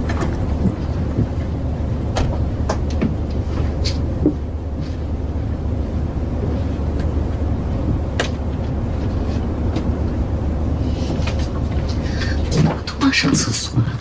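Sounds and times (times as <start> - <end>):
airliner cabin drone: 0.0 - 14.0.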